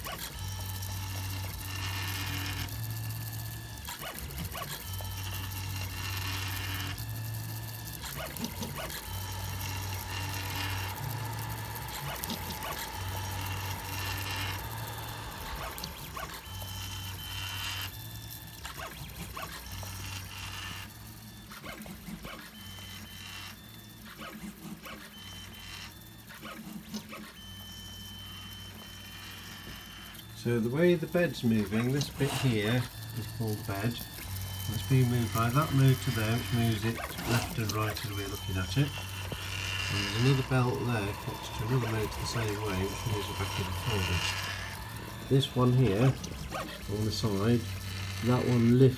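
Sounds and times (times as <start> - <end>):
stepper motors humming and whining: 0.0 - 48.9.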